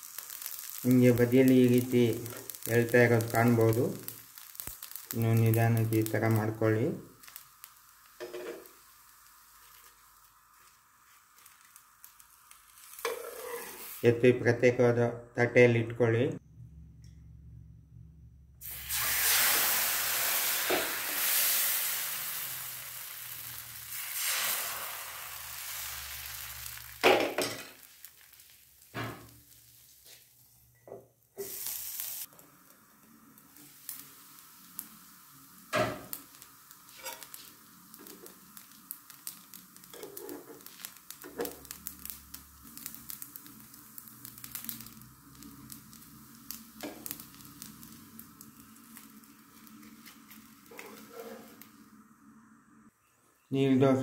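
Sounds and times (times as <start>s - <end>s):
batter sizzling on hot pan: 0.0s - 14.9s, 18.6s - 54.0s
faint crackling of cooking: 0.0s - 14.9s, 18.6s - 54.0s.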